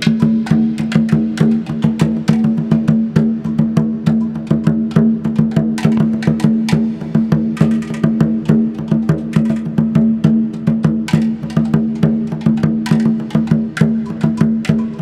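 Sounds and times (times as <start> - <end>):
pitched wooden drum strokes: 0.0 - 15.0.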